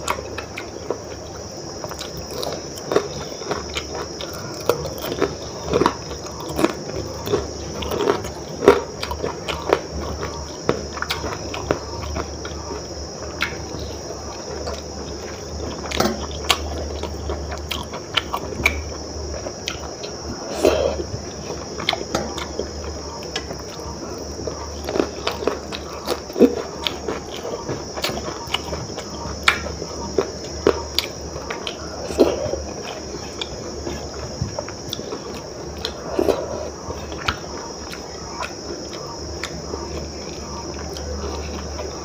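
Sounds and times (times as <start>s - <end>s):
insects chirring: 0.0s - 42.0s
person chewing food: 0.0s - 42.0s.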